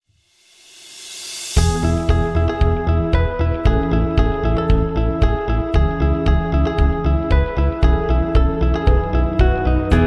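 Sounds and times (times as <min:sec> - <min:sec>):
background music with steady beat: 0:00.4 - 0:10.0.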